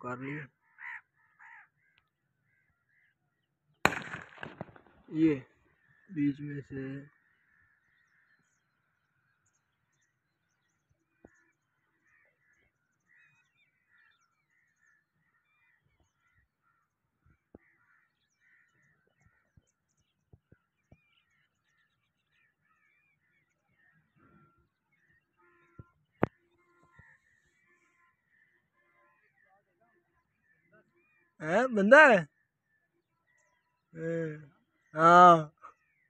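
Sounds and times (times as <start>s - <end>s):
distant birds calling: 0.0s - 36.0s.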